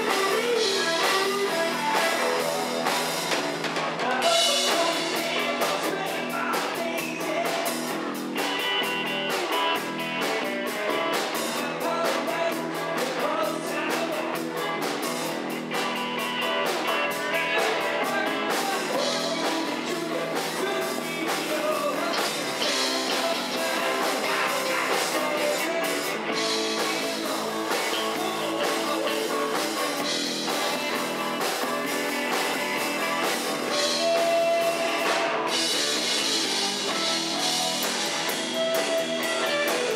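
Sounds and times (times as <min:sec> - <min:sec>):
drum kit with cymbals: 0:00.0 - 0:39.9
electric bass: 0:00.0 - 0:39.9
electric guitars: 0:00.0 - 0:39.9.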